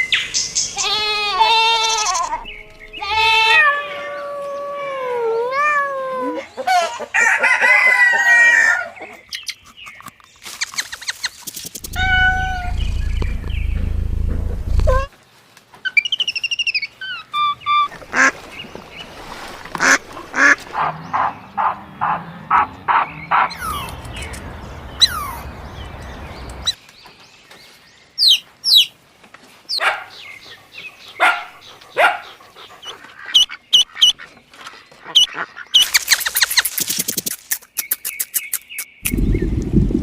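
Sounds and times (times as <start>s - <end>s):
birds calling: 0.0s - 4.3s, 8.7s - 15.1s, 15.9s - 29.0s, 29.7s - 39.6s.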